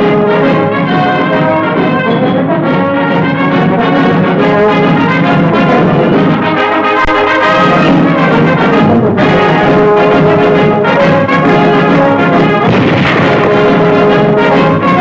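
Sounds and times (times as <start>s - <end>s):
orchestral music led by brass: 0.0s - 15.0s.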